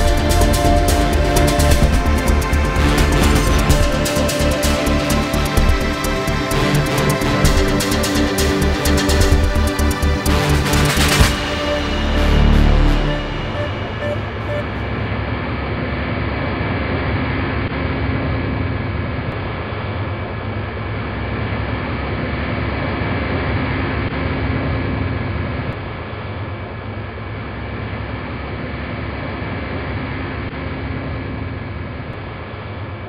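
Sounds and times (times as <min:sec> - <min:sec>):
aircraft engine drone: 0:00.0 - 0:33.0.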